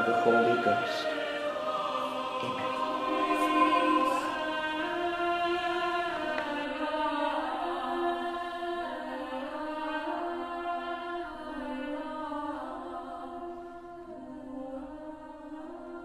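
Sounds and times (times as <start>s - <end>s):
slow choral chant: 0.0s - 16.0s.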